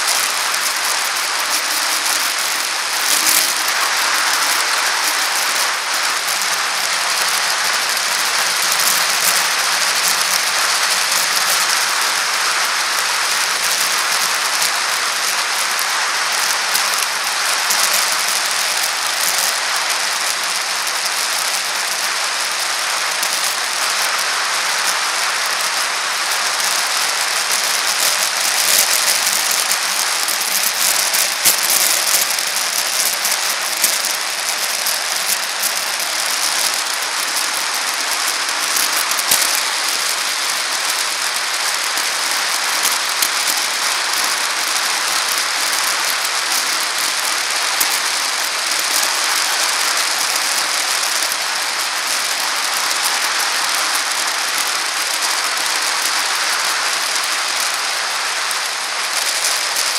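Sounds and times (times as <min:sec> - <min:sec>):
bicycle tyres hissing on pavement: 0:00.0 - 0:59.9
light rattles and clicks: 0:00.0 - 0:59.9.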